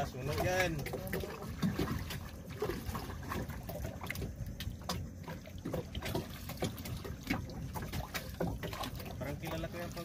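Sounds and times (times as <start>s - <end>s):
water lapping against boat hull: 0.0s - 10.0s.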